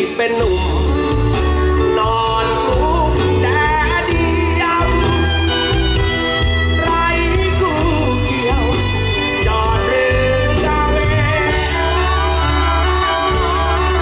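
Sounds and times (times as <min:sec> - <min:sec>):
band playing drums bass keyboard: 0:00.0 - 0:14.0
man singing: 0:00.0 - 0:14.0.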